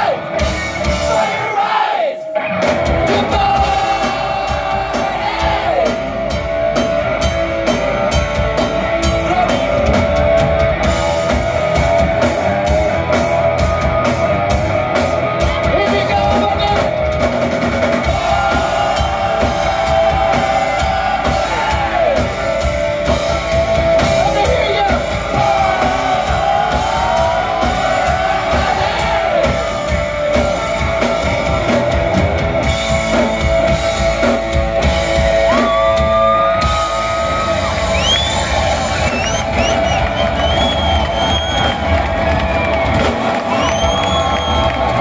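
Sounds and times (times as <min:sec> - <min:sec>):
bass guitar: 0:00.0 - 0:01.5, 0:02.3 - 0:45.0
drum kit: 0:00.0 - 0:01.6, 0:02.2 - 0:45.0
electric guitar: 0:02.3 - 0:45.0.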